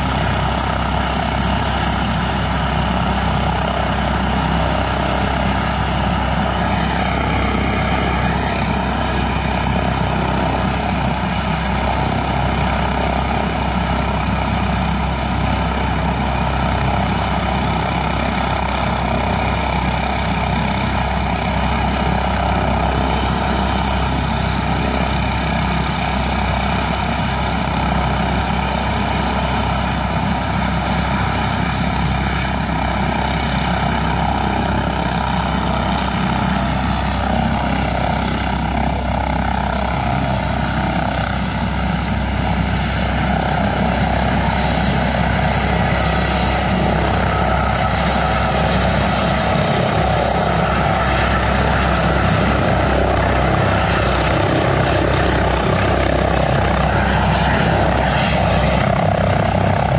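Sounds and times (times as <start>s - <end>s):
helicopter rotor noise: 0.0s - 59.9s
helicopter turbine whine: 0.0s - 59.9s.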